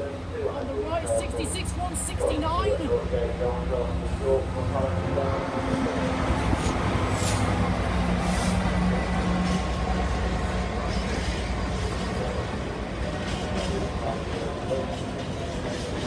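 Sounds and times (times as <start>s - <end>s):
diesel locomotive rumble: 0.0s - 16.0s.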